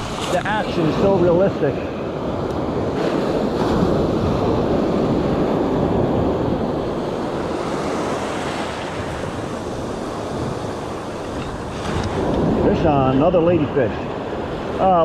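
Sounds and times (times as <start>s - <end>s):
surf breaking on a beach: 0.0s - 15.0s
wind on the microphone: 0.0s - 15.0s.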